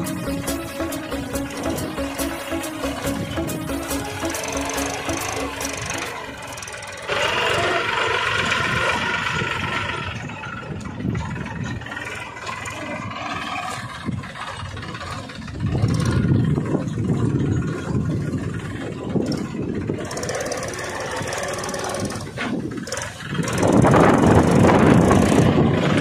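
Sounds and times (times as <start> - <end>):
small tractor engine clattering: 0.0 - 26.0.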